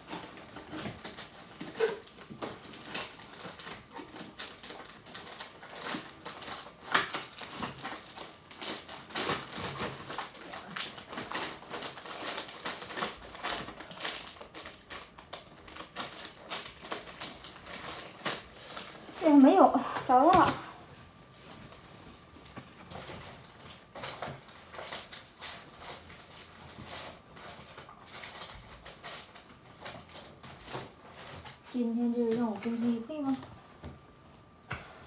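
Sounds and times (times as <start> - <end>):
rummaging through packaging: 0.0 - 20.7, 21.4 - 33.4.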